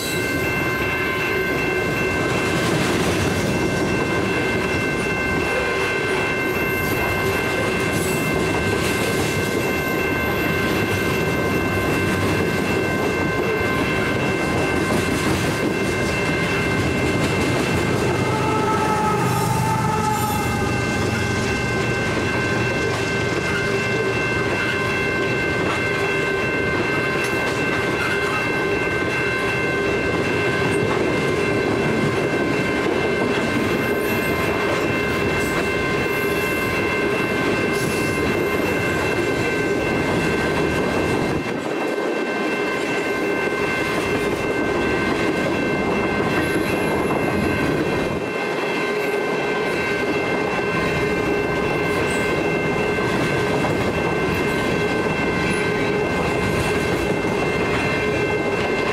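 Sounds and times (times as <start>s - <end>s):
high ringing tones: 0.0s - 58.9s.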